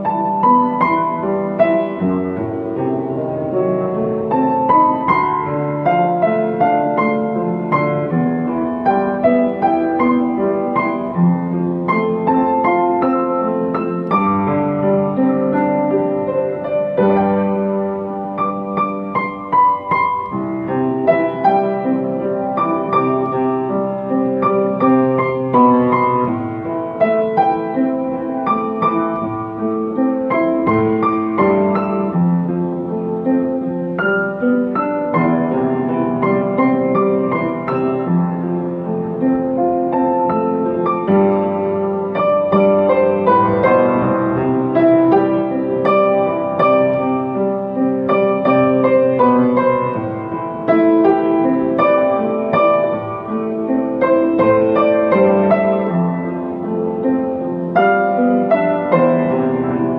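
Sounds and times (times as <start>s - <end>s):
solo piano ballad: 0.0s - 59.9s.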